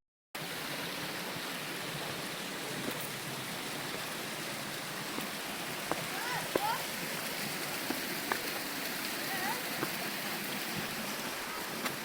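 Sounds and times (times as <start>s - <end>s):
stream water rushing: 0.4s - 12.0s.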